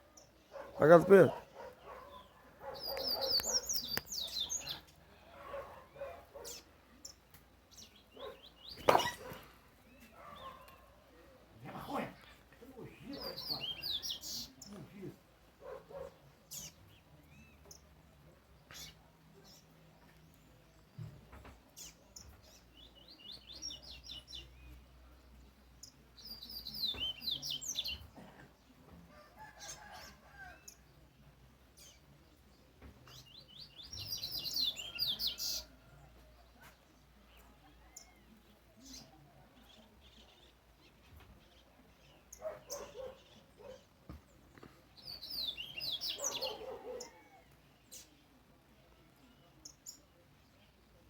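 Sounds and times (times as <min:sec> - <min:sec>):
birds singing high chirping notes: 0:00.0 - 0:21.0, 0:21.6 - 0:28.1, 0:31.7 - 0:35.8, 0:36.8 - 0:51.0.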